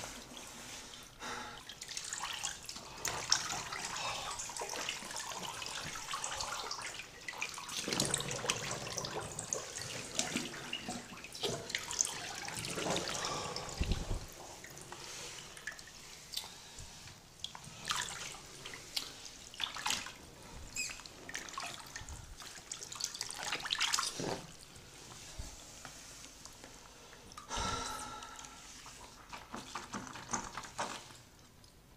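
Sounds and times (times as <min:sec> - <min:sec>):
water splashing in a bathtub: 0:00.0 - 0:31.9.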